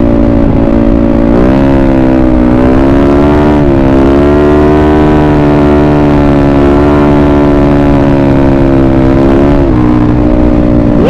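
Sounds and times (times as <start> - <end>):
scooter engine at speed: 0.0 - 11.0.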